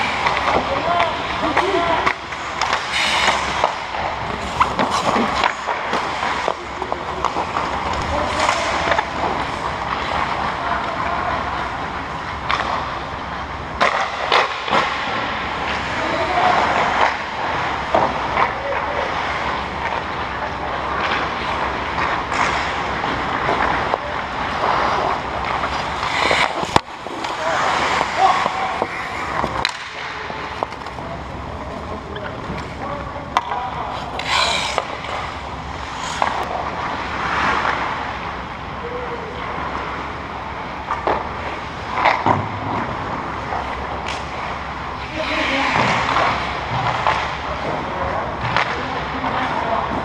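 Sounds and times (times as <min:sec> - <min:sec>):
skate blades scraping ice: 0:00.0 - 0:10.6, 0:13.8 - 0:31.0, 0:33.9 - 0:38.4, 0:40.9 - 0:49.2
hockey sticks and puck clacking: 0:00.0 - 0:50.0.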